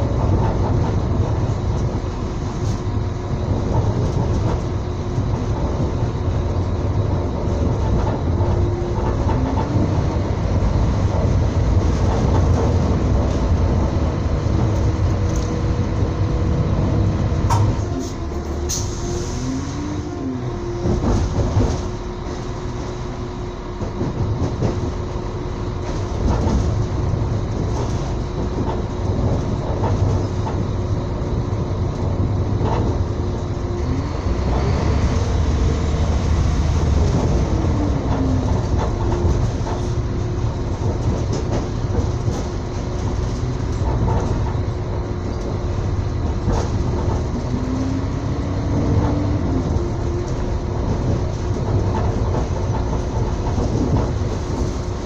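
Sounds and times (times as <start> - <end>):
train rumble: 0.0 - 55.0
wheels clattering over rail joints: 0.0 - 55.0.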